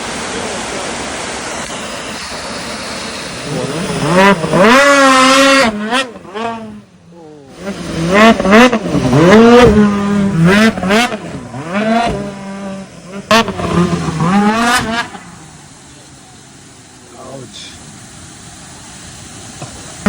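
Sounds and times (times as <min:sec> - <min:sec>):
snowmobile engine revving: 0:00.0 - 0:17.8.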